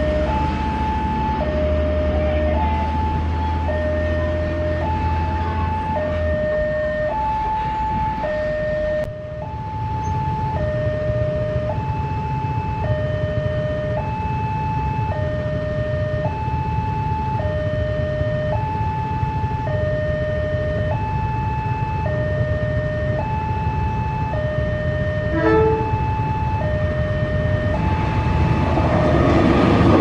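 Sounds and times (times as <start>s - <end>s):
low rumble of vehicle engines: 0.0s - 30.0s
two-tone ambulance siren: 0.0s - 30.0s.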